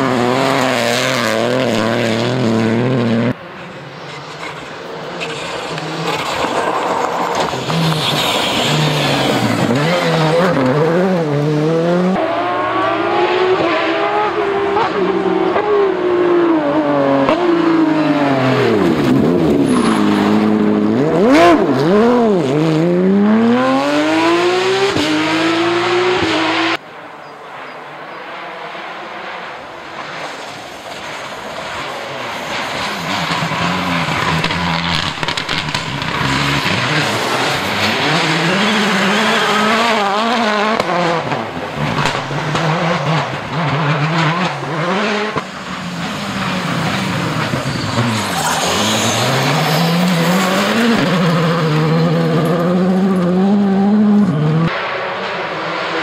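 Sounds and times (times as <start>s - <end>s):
second car revving on gravel: 0.0s - 3.4s, 5.3s - 15.9s, 16.6s - 26.8s, 32.5s - 56.0s
rally car engine revving: 0.0s - 26.8s, 31.6s - 56.0s.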